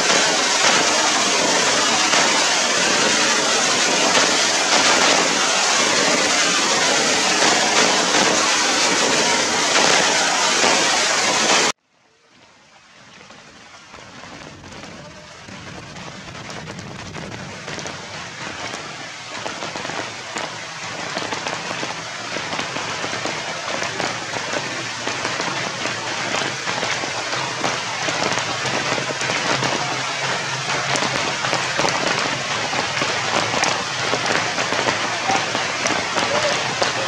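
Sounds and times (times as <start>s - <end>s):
rain falling on leaves: 0.0s - 37.0s.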